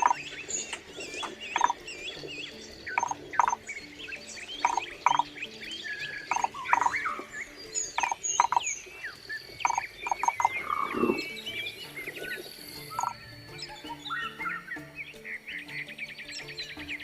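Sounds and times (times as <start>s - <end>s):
wild birds chirping and singing: 0.0s - 17.0s.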